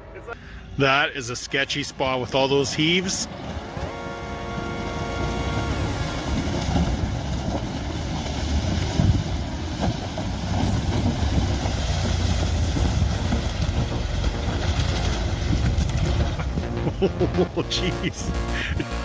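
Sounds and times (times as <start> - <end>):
vehicle rumbling: 0.0 - 19.0.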